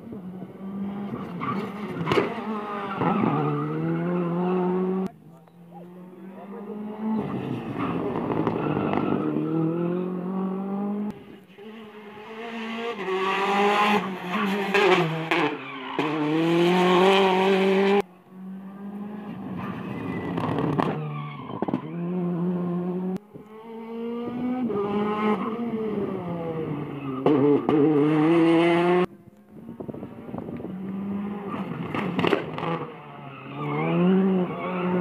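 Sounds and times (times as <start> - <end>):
rally cars passing at speed: 0.0 - 35.0.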